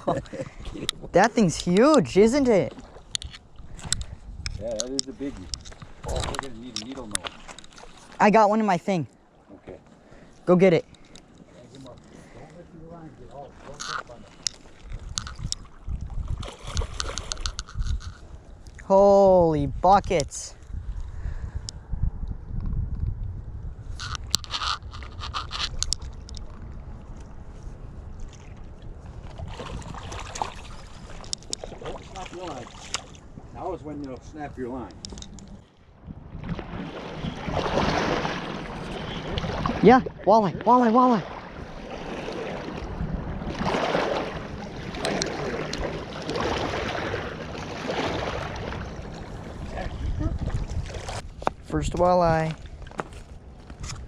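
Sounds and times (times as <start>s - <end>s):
wind rumbling on microphone: 0.0s - 8.3s, 12.7s - 54.0s
river water: 0.0s - 21.9s, 23.8s - 54.0s.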